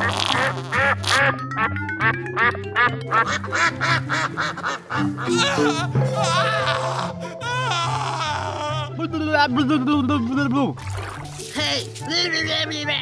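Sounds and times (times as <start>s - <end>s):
upbeat playful background music: 0.0s - 13.0s.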